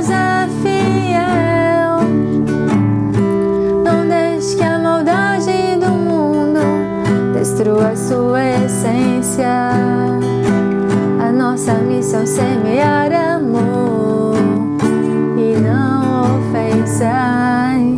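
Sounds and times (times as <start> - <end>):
strummed acoustic guitar: 0.0 - 17.9
woman singing: 0.0 - 17.9.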